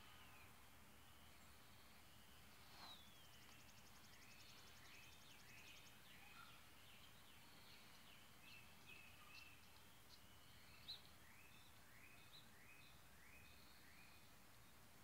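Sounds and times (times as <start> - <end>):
faint birdsong chirping: 0.0 - 15.0.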